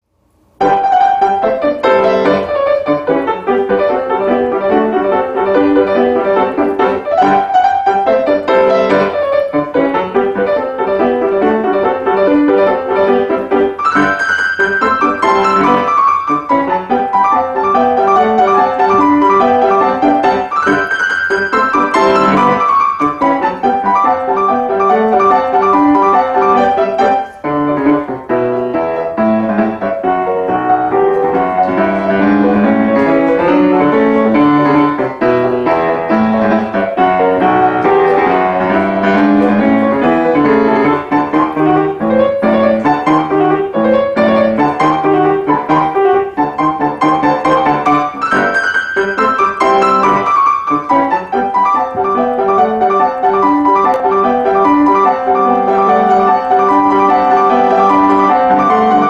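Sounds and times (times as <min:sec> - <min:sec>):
piano music: 0:00.1 - 0:59.0.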